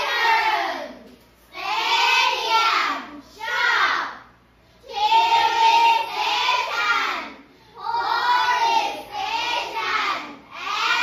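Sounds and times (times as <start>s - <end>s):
children chanting in unison: 0.0s - 11.0s.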